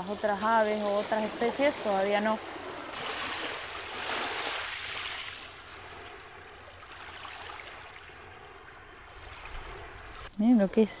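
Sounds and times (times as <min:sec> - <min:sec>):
small waves washing over pebbles: 0:00.0 - 0:10.3.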